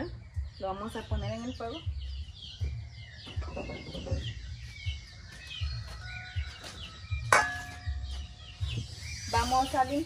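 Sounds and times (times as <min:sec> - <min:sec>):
small birds chirping: 0:00.0 - 0:10.0
chickens clucking: 0:00.6 - 0:10.0.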